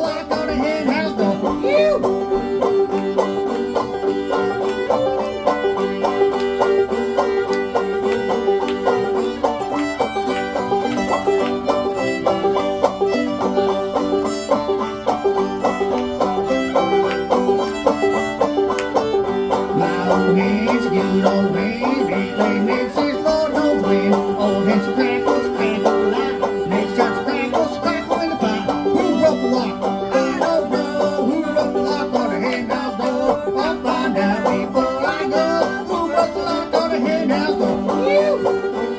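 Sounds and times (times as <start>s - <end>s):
bluegrass string band: 0.0s - 38.9s
fast banjo picking: 0.0s - 38.9s.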